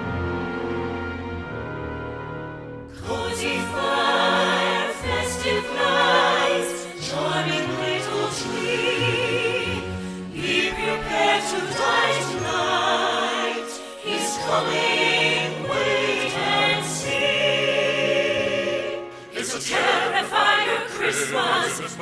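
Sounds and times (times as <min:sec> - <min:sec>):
choir singing long notes: 0:00.0 - 0:22.0.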